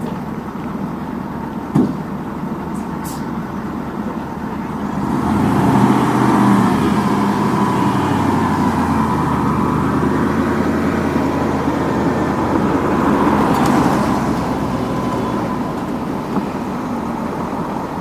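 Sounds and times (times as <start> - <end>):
heavy vehicle engine running: 0.0 - 18.0.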